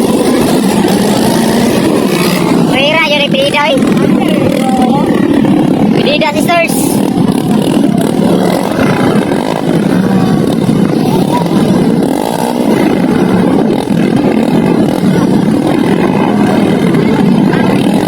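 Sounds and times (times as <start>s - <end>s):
dirt bike engines running: 0.0s - 18.0s.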